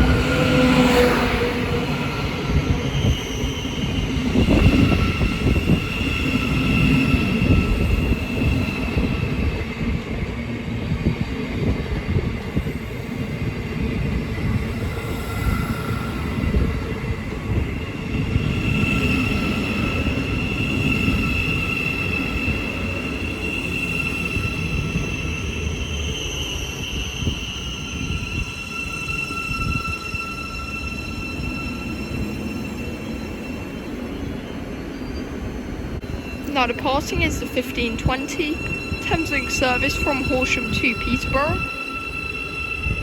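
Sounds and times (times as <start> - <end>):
electric train low rumble: 0.0 - 43.0.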